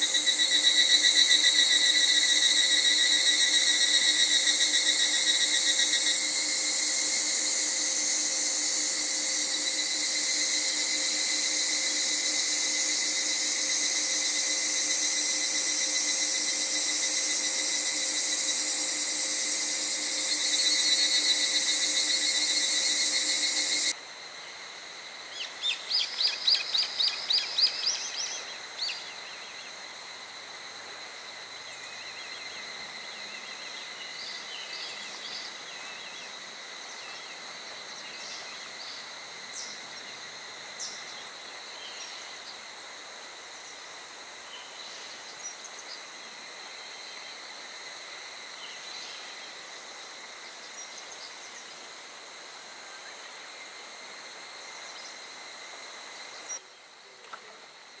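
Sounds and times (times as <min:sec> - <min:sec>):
high-pitched insect drone: 0:00.0 - 0:56.7.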